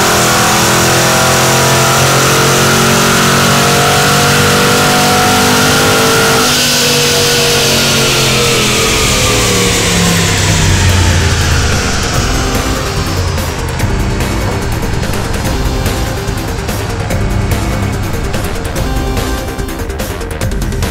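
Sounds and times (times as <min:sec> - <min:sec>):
car engine accelerating: 0:00.0 - 0:20.9.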